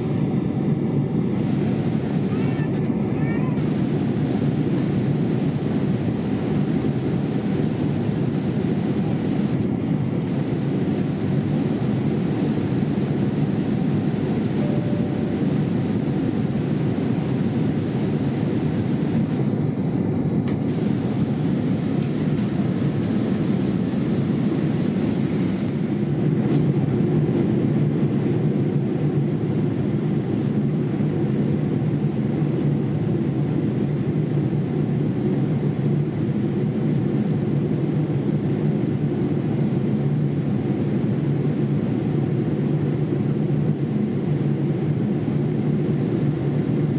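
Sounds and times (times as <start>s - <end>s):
airliner cabin noise: 0.0s - 46.9s.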